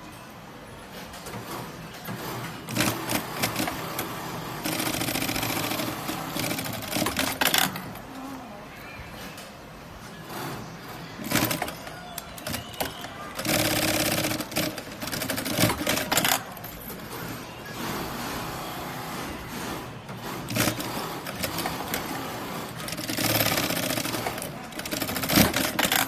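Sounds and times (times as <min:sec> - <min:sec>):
busy factory background: 0:00.0 - 0:26.0
industrial sewing machines stitching: 0:01.0 - 0:08.1, 0:10.3 - 0:26.0.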